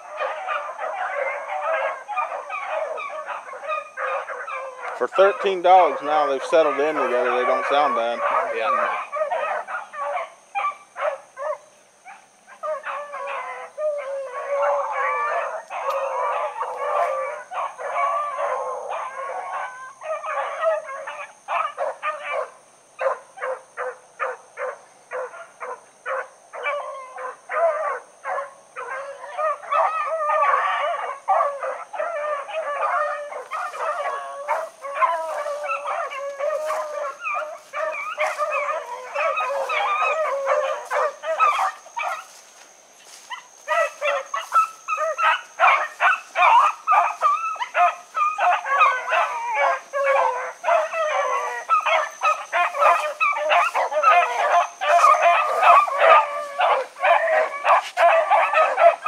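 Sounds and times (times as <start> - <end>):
hounds baying and barking: 0.0 - 59.0.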